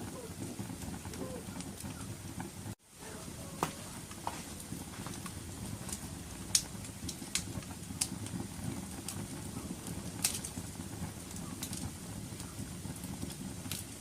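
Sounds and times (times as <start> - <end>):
fire crackling and popping: 0.0 - 14.0
low rumble of flames: 0.0 - 14.0.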